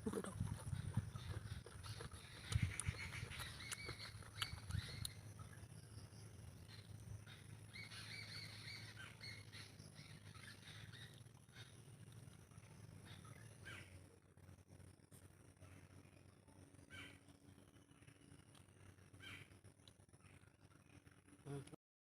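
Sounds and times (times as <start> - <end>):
faint bird chirps: 0.0 - 14.7, 15.5 - 21.7
low steady hum: 0.0 - 21.8.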